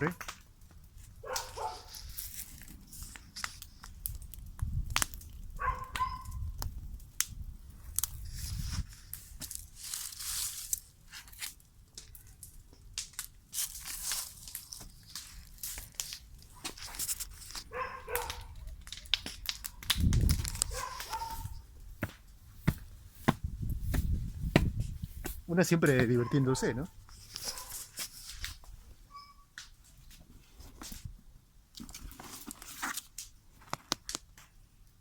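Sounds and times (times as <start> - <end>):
bonfire crackling and popping: 0.0 - 35.0.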